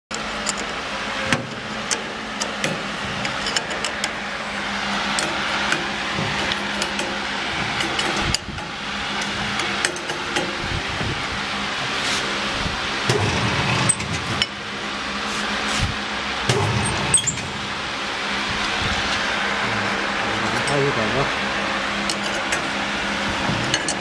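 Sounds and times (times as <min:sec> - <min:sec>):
pasta machine humming: 0:00.1 - 0:24.0.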